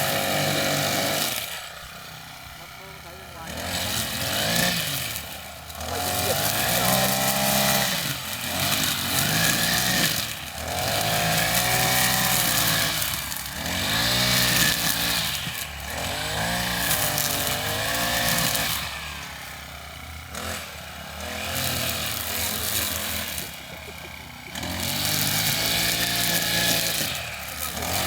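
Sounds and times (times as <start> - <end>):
lawnmower engine running: 0.0 - 28.0.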